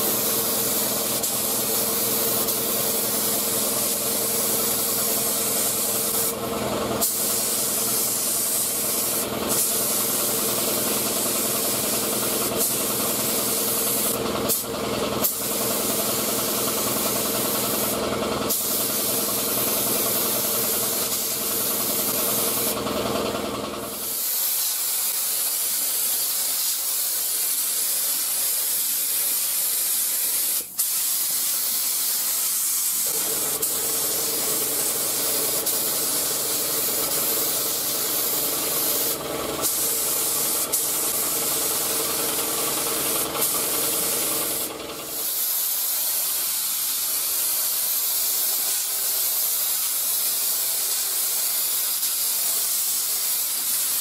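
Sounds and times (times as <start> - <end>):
spray gun hissing: 0.0 - 22.9, 23.9 - 54.0.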